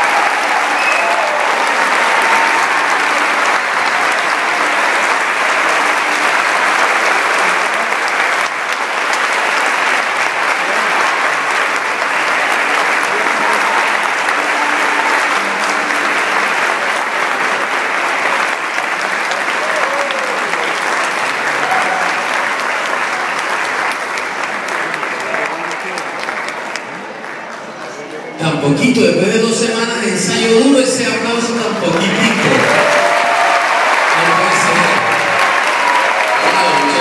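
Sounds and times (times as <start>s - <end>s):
audience applauding: 0.0s - 28.4s, 29.4s - 37.0s.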